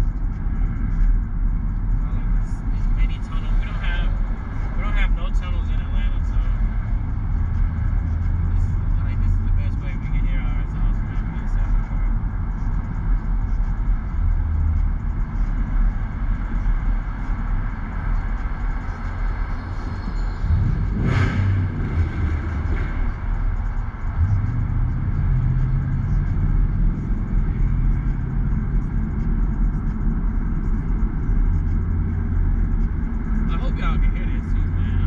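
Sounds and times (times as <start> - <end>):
car engine and exhaust rumble: 0.0 - 35.0.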